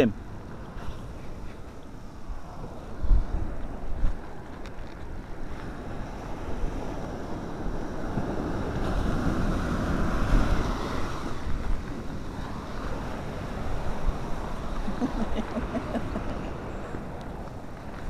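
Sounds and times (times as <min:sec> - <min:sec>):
surf waves breaking on sand: 0:00.0 - 0:18.0
wind buffeting microphone: 0:00.0 - 0:18.0.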